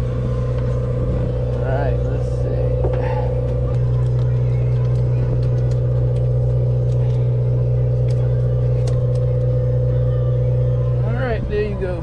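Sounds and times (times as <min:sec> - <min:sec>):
boat motor drone: 0:00.0 - 0:12.0.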